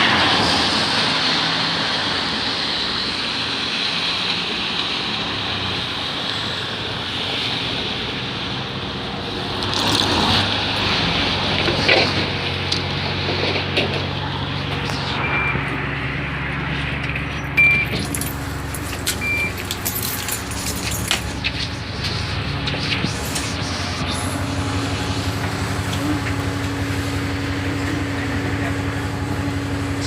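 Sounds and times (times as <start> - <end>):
tyres hissing on wet road: 0.0 - 17.0, 17.9 - 30.0
bus engine hum: 0.0 - 30.0.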